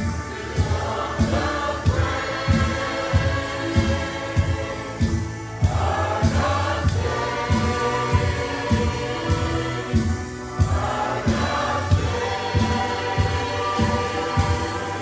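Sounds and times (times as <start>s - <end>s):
drum kit steady beat: 0.0s - 15.0s
group singing worship song: 0.0s - 15.0s
live band playing: 0.0s - 15.0s.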